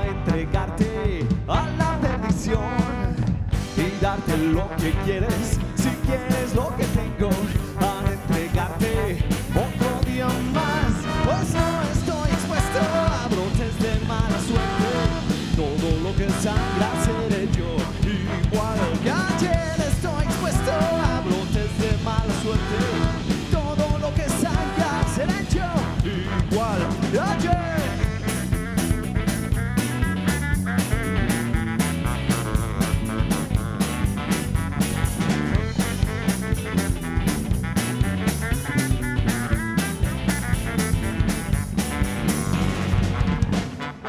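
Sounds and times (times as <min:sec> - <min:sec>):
drum beat: 0:00.0 - 0:44.0
electric guitar: 0:00.0 - 0:44.0
saxophone: 0:00.0 - 0:44.0
trombone: 0:00.0 - 0:44.0.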